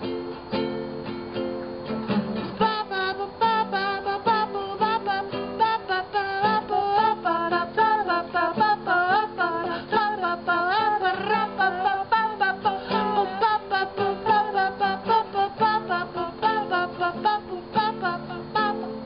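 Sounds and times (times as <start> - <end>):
strummed acoustic strings: 0.0 - 19.0
person singing wordless syllables: 2.6 - 19.0.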